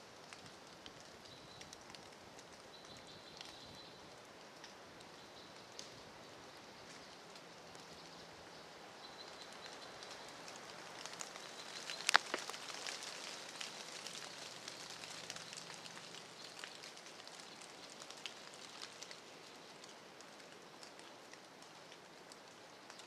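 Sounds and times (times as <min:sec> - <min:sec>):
light rain dripping on leaf litter: 0:00.0 - 0:23.0.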